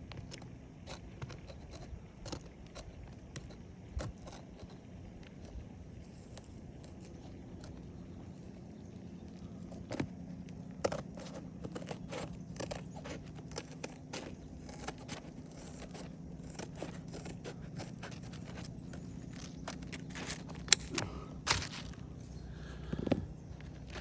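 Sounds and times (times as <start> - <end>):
scraping and rustling of shingles: 0.0 - 8.5, 9.4 - 24.0
steady low hum: 0.0 - 24.0.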